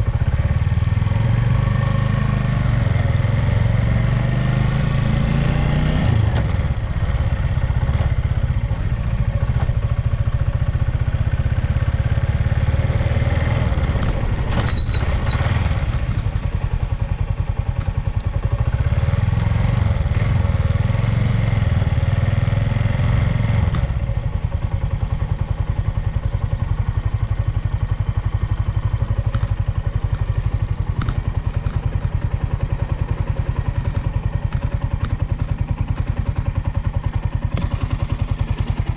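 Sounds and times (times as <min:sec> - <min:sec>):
motorcycle engine idling: 0:00.0 - 0:04.9, 0:06.1 - 0:38.9.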